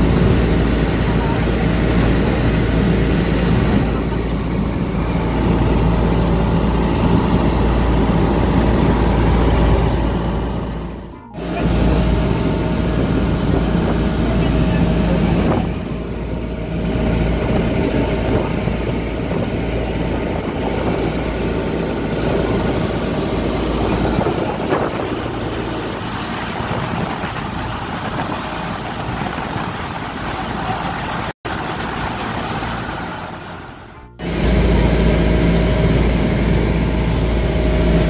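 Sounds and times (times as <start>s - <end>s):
boat engine running: 0.0s - 38.0s
water splashing along hull: 0.0s - 38.0s.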